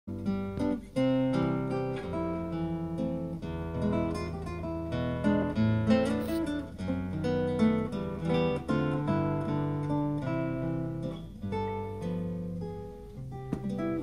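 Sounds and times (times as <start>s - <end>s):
classical guitar fingerstyle: 0.1s - 14.0s.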